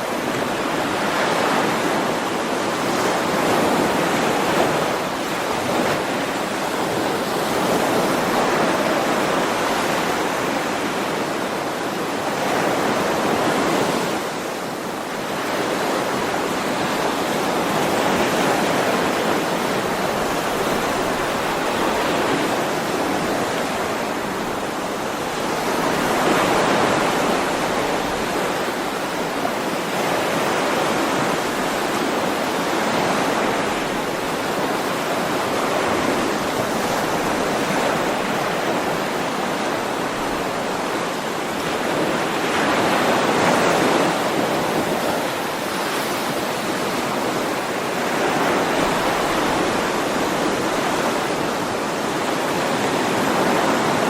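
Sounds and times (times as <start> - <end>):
sea surf rushing: 0.0 - 54.0.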